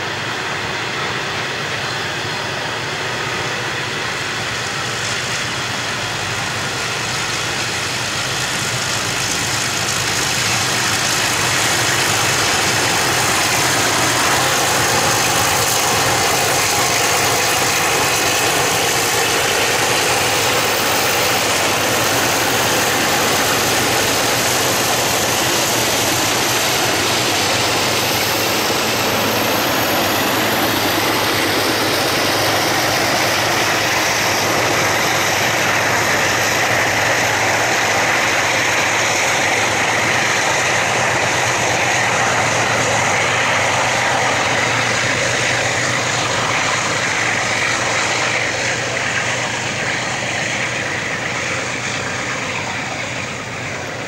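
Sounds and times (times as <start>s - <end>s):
diesel locomotive engines under load: 0.0s - 54.0s
rolling train wagons: 0.0s - 54.0s.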